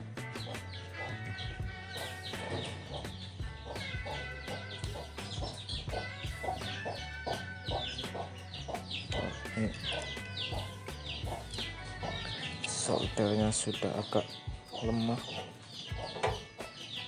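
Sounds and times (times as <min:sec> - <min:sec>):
background music: 0:00.0 - 0:17.0
chickens clucking: 0:00.0 - 0:17.0.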